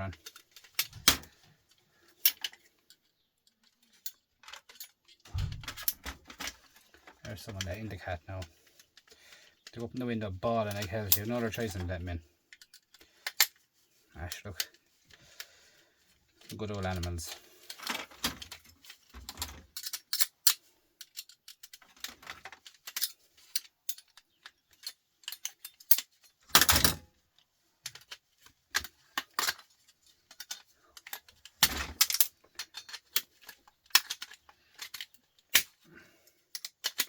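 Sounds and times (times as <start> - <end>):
small metal parts clattering: 0.0 - 37.0.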